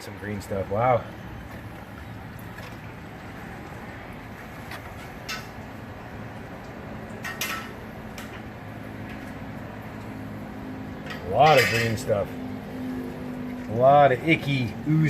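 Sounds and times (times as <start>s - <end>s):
water rushing through pipes: 0.0s - 15.0s.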